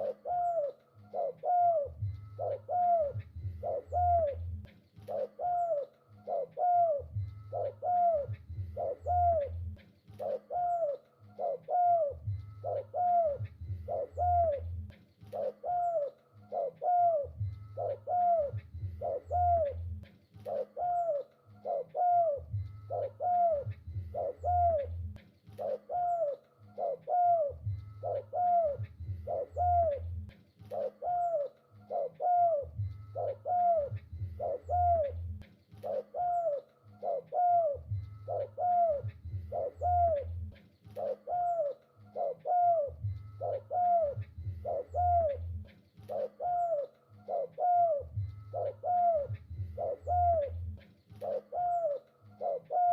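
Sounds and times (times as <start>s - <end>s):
low hum: 0.0s - 15.8s, 16.4s - 52.9s
dove cooing: 0.0s - 52.9s.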